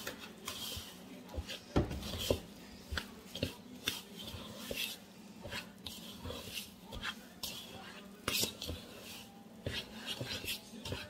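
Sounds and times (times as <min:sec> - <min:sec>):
fork scraping mixing bowl: 0:00.0 - 0:11.0.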